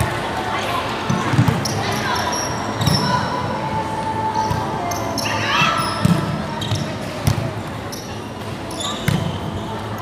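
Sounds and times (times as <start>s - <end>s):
chatter in echoing hall: 0.0s - 10.0s.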